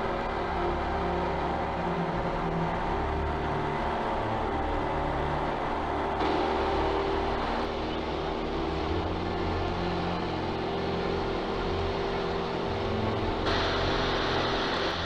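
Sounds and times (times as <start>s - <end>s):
light aircraft engine and propeller: 0.0s - 15.0s.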